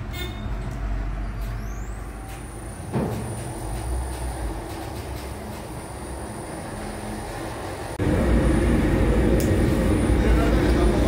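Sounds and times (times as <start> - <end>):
low hum: 1.9 - 11.0
blower whine: 2.0 - 11.0.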